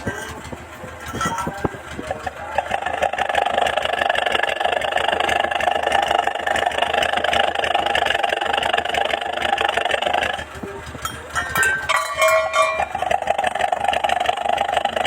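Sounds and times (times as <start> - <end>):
petrol engine idling: 0.0 - 15.0.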